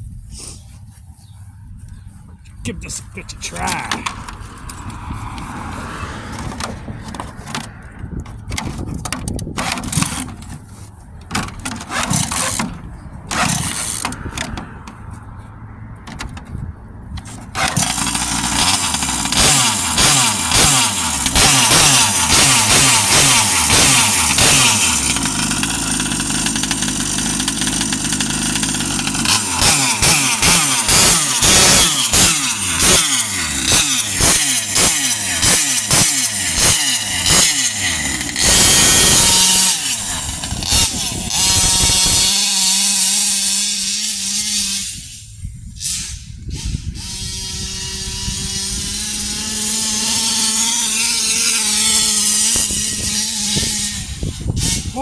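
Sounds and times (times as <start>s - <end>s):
two-stroke engine revving: 2.6s - 15.1s, 17.2s - 45.2s, 45.8s - 55.0s.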